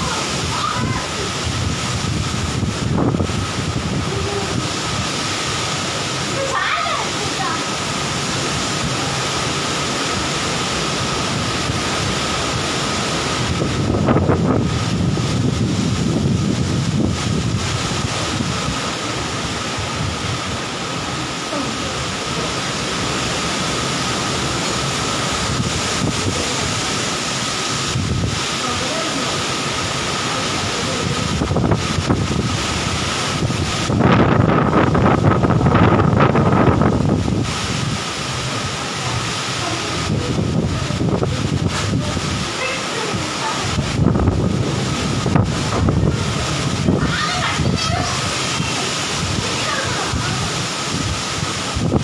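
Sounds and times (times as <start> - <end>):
heavy rain: 0.0 - 52.0
wind buffeting microphone: 0.0 - 52.0.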